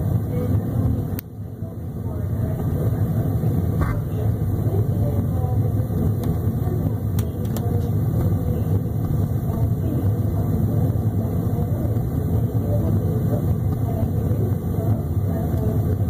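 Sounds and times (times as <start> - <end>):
gas burner rumbling: 0.0 - 16.0.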